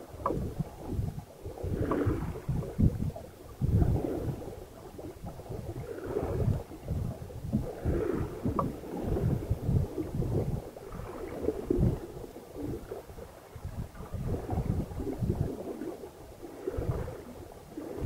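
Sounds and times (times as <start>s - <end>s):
water rushing along hull: 0.0s - 18.0s
wind buffeting microphone: 0.0s - 18.0s.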